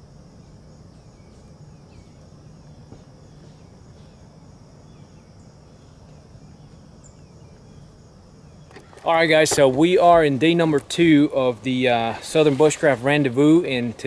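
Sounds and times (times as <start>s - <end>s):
high insect drone: 0.0s - 14.0s
low steady hum: 0.0s - 14.0s.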